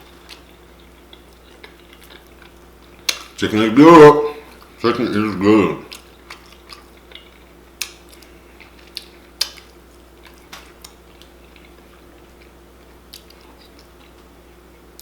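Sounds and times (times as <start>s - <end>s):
close chewing and smacking: 0.0s - 3.4s, 5.8s - 15.0s
faint steady hum: 0.0s - 15.0s.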